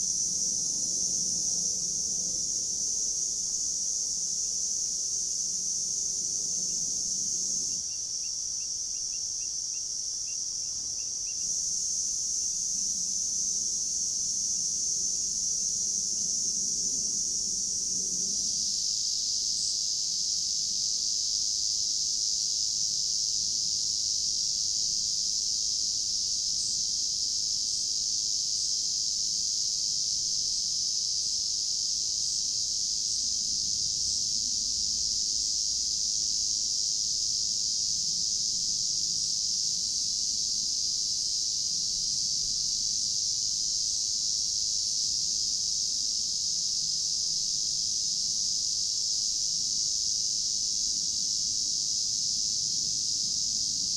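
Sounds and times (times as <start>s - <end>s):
insects chorus: 0.0s - 53.9s.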